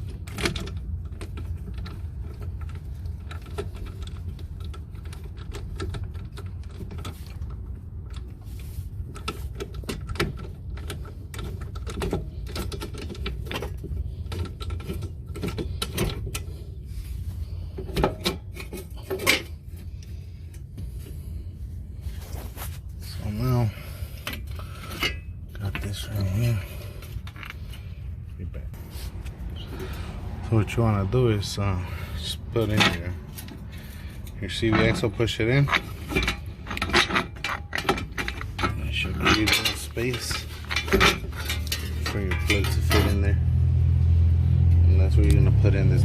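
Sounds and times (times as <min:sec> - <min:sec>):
hand tools clicking and clanking: 0:00.0 - 0:21.3, 0:23.1 - 0:28.0, 0:28.6 - 0:43.8.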